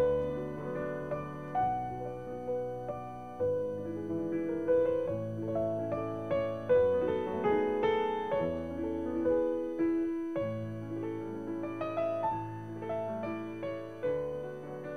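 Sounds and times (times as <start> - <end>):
gentle piano melody: 0.0 - 14.9.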